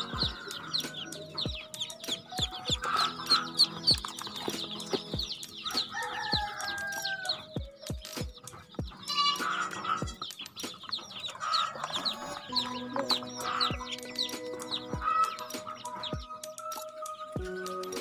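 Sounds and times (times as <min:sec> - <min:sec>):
background music with low beat: 0:00.0 - 0:18.0
ducklings peeping: 0:00.0 - 0:18.0.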